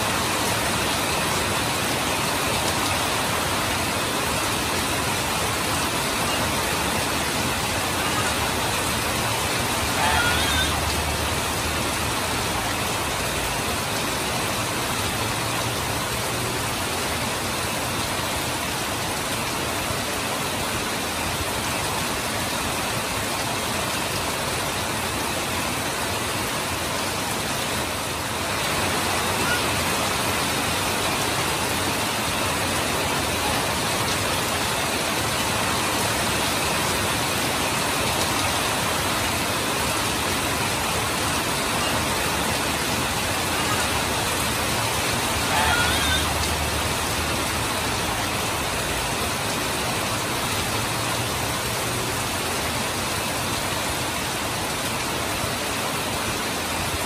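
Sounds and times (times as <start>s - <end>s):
heavy rain pouring: 0.0s - 57.0s
water running off roof: 0.0s - 57.0s.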